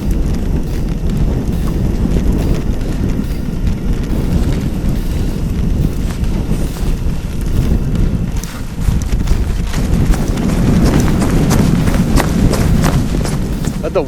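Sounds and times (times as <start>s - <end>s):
sharp ticks and crunches: 0.0s - 14.0s
wind buffeting microphone: 0.0s - 14.0s.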